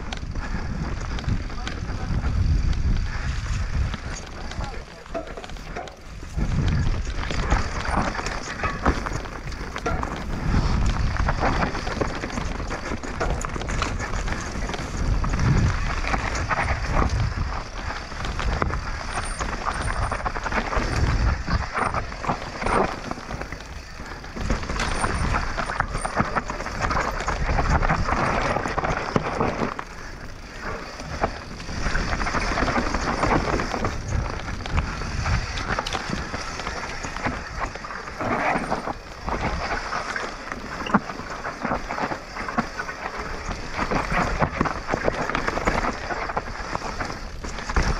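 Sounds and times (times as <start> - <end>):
rushing wind noise: 0.0 - 4.9, 5.5 - 47.9
bike rattling over bumps: 0.0 - 47.9
bike tyres rolling over dirt: 0.0 - 47.9.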